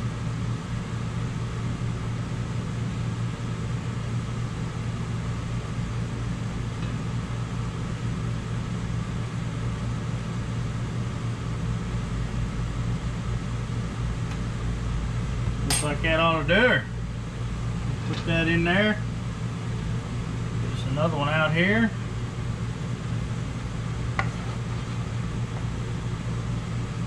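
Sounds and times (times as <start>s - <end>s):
fan humming and hissing: 0.0s - 27.0s.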